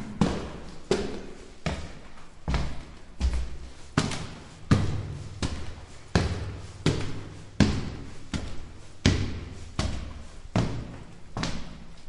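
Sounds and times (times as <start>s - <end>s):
footsteps on stone stairs: 0.0s - 12.0s.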